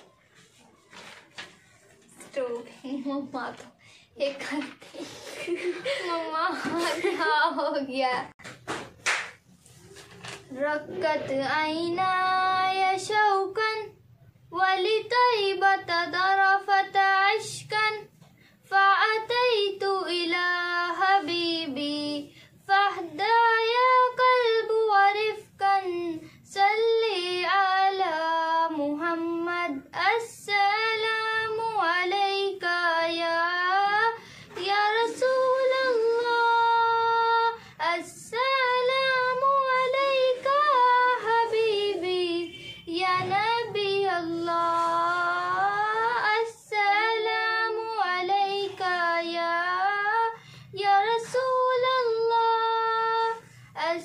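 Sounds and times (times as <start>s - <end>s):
girl singing unaccompanied: 2.2s - 8.4s, 10.4s - 54.0s.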